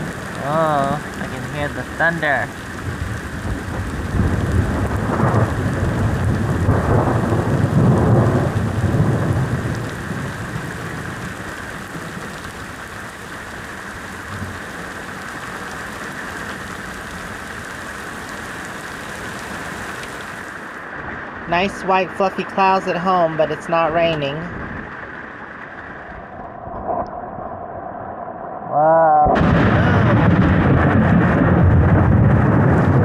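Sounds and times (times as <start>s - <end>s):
thunder rumbling: 0.0s - 22.2s, 23.9s - 33.0s
steady rain: 0.0s - 33.0s.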